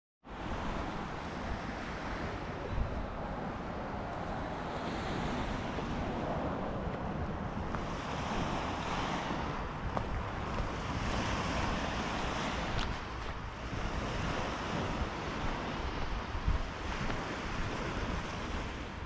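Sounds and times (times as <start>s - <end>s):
wind rumble on microphone: 0.2s - 19.0s
lake waves washing onto shore: 0.4s - 19.0s.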